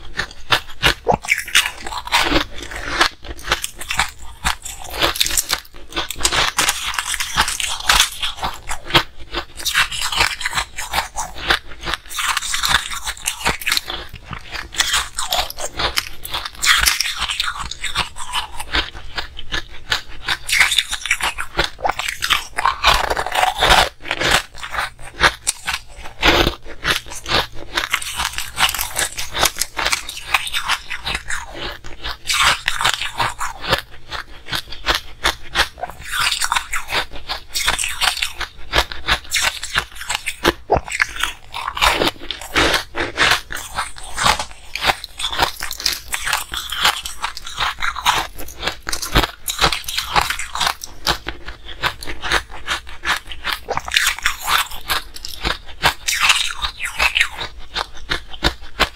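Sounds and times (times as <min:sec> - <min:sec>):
chewing crunchy ice: 0:00.0 - 0:58.9.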